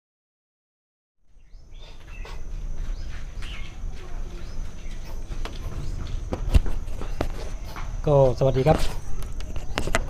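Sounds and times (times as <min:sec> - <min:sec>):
birds chirping: 0:01.3 - 0:10.0.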